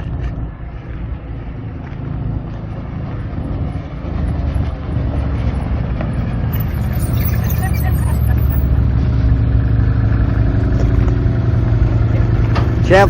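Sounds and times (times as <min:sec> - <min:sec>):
off-road vehicle engine driving: 0:00.0 - 0:13.0.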